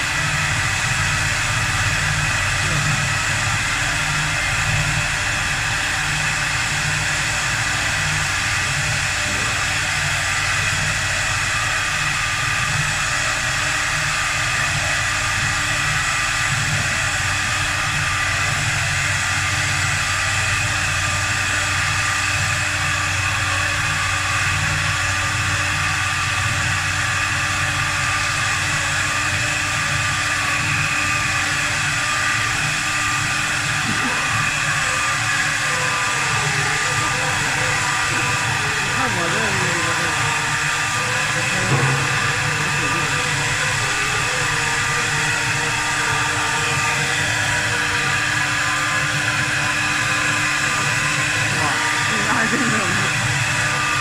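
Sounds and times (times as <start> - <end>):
wood lathe running: 0.0 - 54.0.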